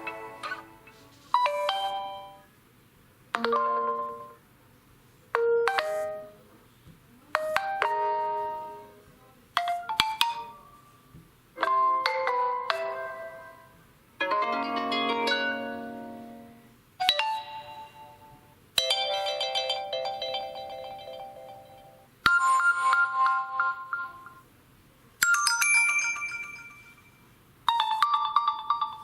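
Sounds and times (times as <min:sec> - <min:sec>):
phone ringtone melody: 0:00.0 - 0:02.5, 0:03.4 - 0:04.4, 0:05.4 - 0:06.4, 0:07.4 - 0:08.9, 0:09.6 - 0:10.9, 0:11.6 - 0:24.4, 0:25.2 - 0:29.0.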